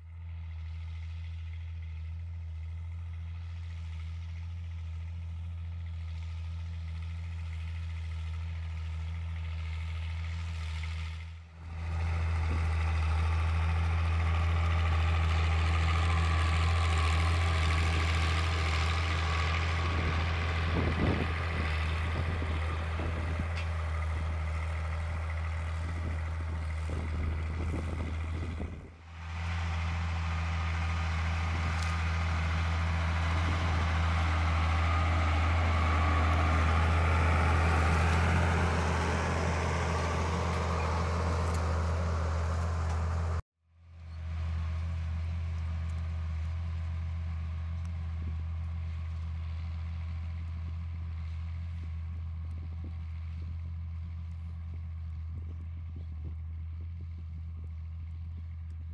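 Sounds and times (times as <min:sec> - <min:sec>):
diesel tractor engine under load: 0:00.0 - 0:58.9.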